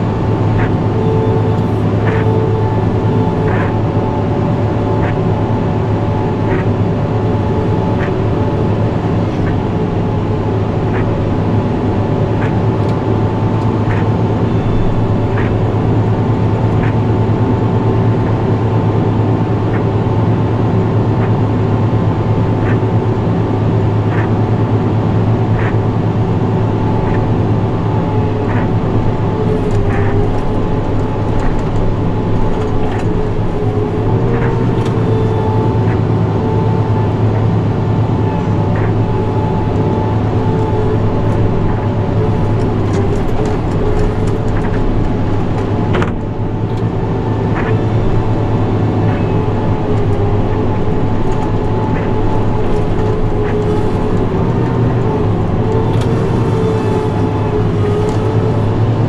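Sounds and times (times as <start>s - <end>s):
steady whine: 0.0s - 59.0s
tractor diesel engine droning: 0.0s - 59.0s.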